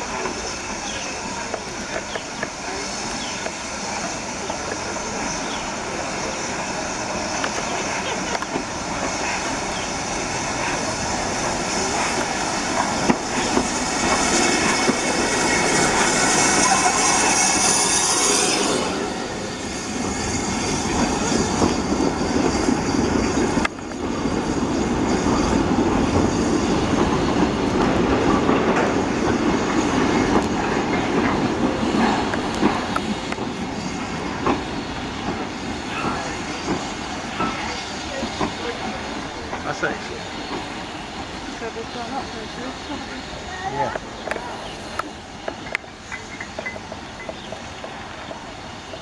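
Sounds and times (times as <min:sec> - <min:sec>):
loud steam hiss: 0:00.0 - 0:49.0
train wheels rumbling over rails: 0:00.0 - 0:49.0.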